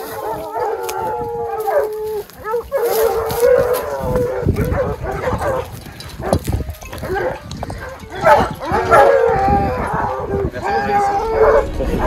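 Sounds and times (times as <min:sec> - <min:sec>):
dogs barking and yelping: 0:00.0 - 0:11.9
hounds baying and howling: 0:00.0 - 0:12.0.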